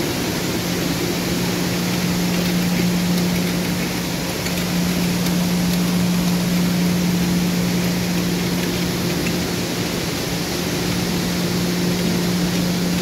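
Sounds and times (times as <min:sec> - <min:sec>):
industrial machinery droning: 0:00.0 - 0:13.0.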